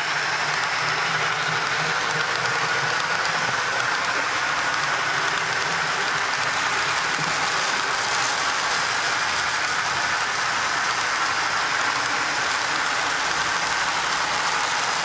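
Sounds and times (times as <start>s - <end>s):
model train wheels on track: 0.0s - 15.0s.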